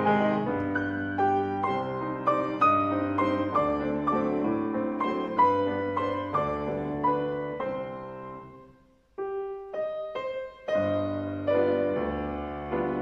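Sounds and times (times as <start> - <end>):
grand piano chords: 0.0 - 13.0.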